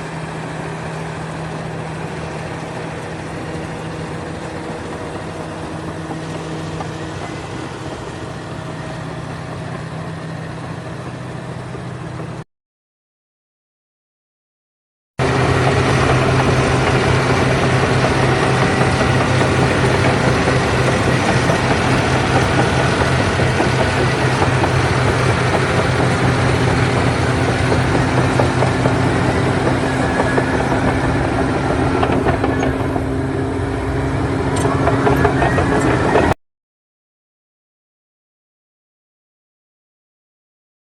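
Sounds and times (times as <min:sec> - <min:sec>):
loud engine running: 0:00.0 - 0:12.4, 0:15.2 - 0:36.4.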